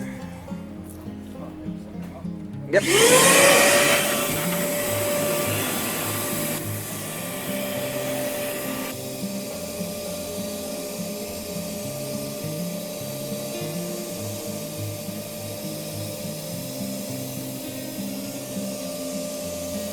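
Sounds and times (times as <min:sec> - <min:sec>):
vacuum motor whining: 0:02.8 - 0:19.9.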